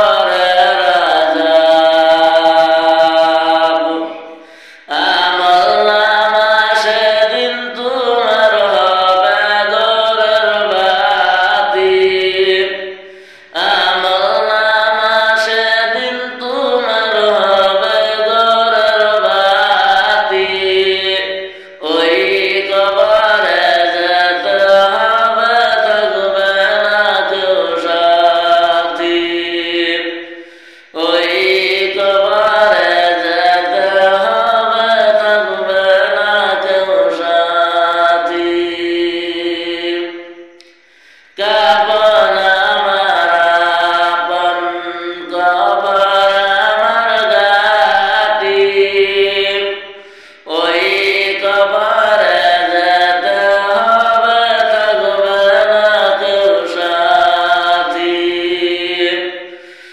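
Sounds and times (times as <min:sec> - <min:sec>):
man singing unaccompanied: 0:00.0 - 0:59.9.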